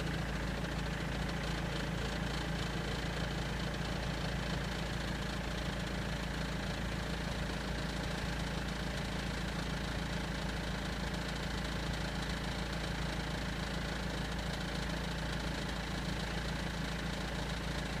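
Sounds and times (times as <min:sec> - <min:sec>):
diesel engine idling: 0:00.0 - 0:18.0
engine rattle: 0:00.0 - 0:18.0.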